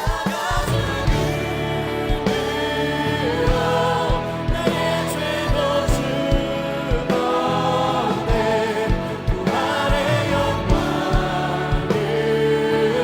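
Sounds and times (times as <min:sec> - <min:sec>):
drum beat: 0:00.0 - 0:12.7
keyboards: 0:00.0 - 0:13.0
voices singing together: 0:00.0 - 0:13.0.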